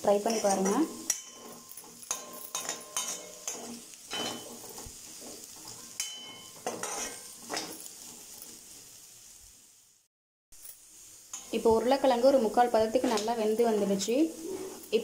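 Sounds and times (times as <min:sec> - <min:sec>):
metal spatula scraping a pan: 0:00.0 - 0:09.0, 0:11.3 - 0:15.0
oil sizzling: 0:00.0 - 0:15.0.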